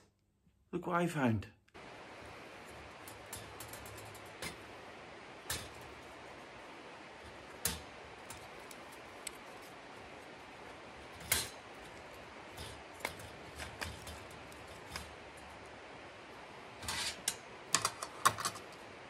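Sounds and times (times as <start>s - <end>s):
faint steady hiss: 0.0s - 19.0s
rustling scrape: 1.8s - 17.4s.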